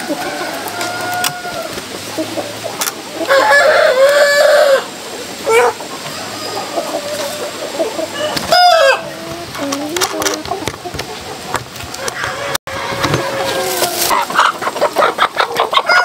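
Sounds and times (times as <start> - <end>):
roosters crowing: 0.0 - 9.4, 12.0 - 16.0
chickens clucking: 0.0 - 16.0.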